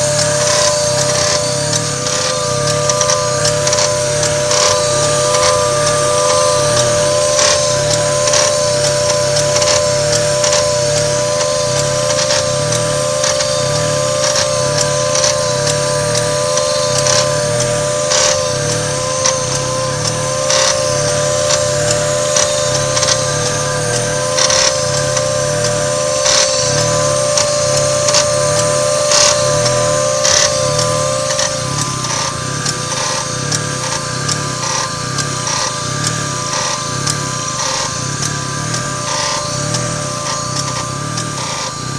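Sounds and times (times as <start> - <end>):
car engine idling unevenly: 0.0 - 41.9
relay clicking: 0.0 - 41.9
wavering whine: 0.0 - 41.9.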